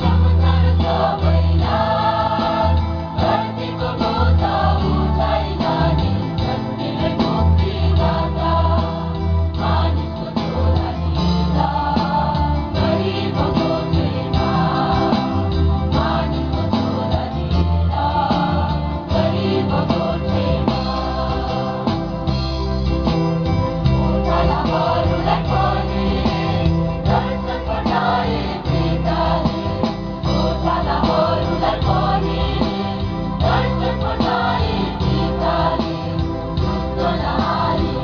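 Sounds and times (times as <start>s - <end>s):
choir singing a hymn: 0.0s - 23.0s, 23.8s - 38.0s
electronic keyboard: 0.0s - 38.0s.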